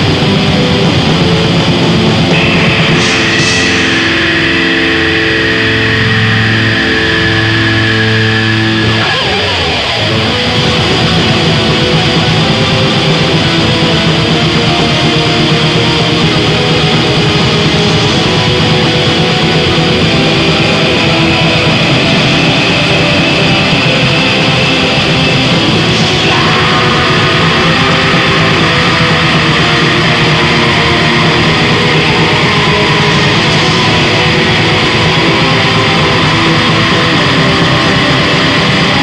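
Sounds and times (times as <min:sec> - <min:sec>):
distorted electric guitar: 0:00.0 - 0:39.0
drums: 0:00.0 - 0:39.0.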